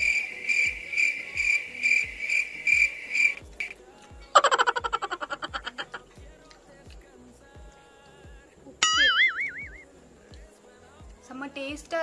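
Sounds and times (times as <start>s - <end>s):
cricket chirping: 0.0s - 11.8s
background music with low beat: 0.0s - 12.0s.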